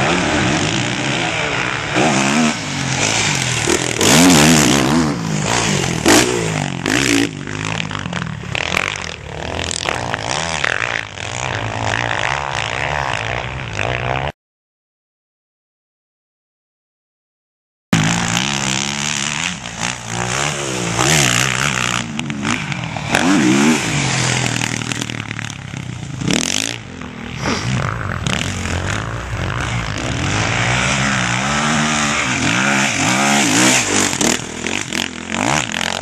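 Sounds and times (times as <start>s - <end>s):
motorcycle engine revving: 0.0s - 14.3s, 18.0s - 36.0s.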